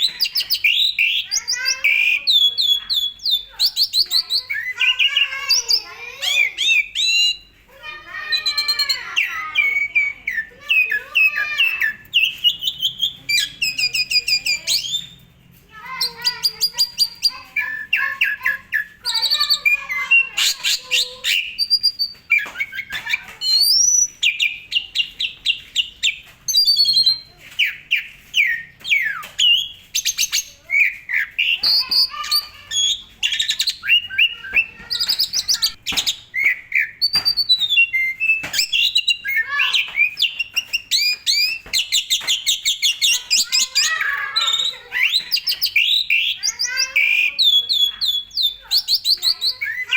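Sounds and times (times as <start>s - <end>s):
starling singing: 0.0s - 49.9s.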